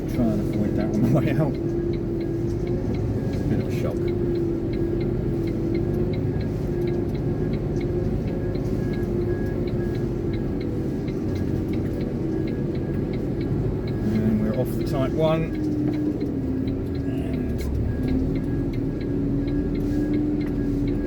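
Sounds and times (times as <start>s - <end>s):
light ticking: 0.0s - 21.0s
truck engine droning: 0.0s - 21.0s.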